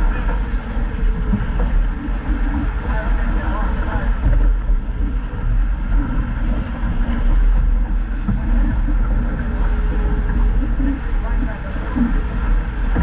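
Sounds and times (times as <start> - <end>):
bow wave splashing along hull: 0.0 - 13.0.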